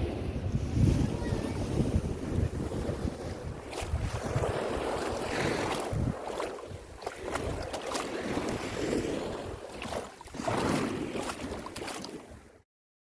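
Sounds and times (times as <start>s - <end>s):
wind buffeting microphone: 0.0s - 12.5s
sea surf at shore: 0.0s - 12.6s.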